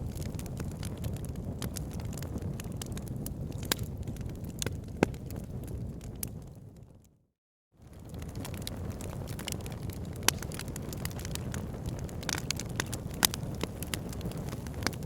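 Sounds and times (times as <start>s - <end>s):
logs crackling and popping: 0.0s - 7.1s, 7.8s - 15.0s
fire rumbling: 0.0s - 7.2s, 7.8s - 15.0s.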